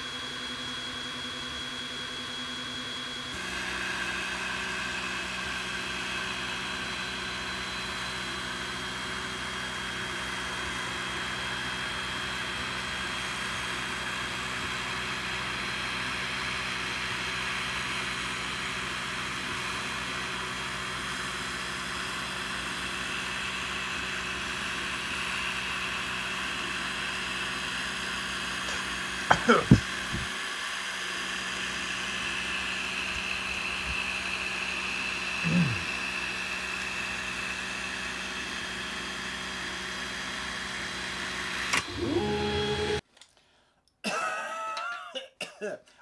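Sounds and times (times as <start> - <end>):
laser engraver whir and hiss: 0.0 - 43.0.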